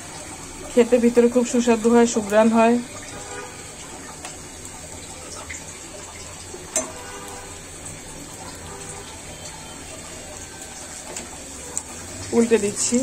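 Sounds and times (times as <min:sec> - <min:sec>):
fritters deep-frying in oil: 0:00.0 - 0:13.0.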